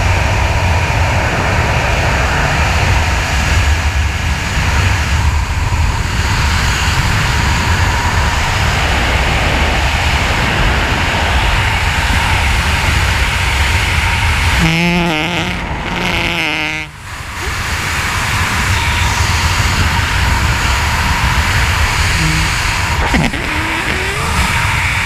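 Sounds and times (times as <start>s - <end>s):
freefall wind roar: 0.0s - 25.0s.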